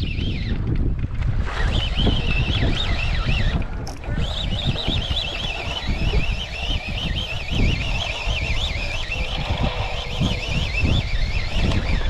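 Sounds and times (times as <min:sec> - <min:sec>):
wind buffeting microphone: 0:00.0 - 0:12.0
water slapping against hull: 0:00.5 - 0:12.0
high warbling whine: 0:01.4 - 0:12.0.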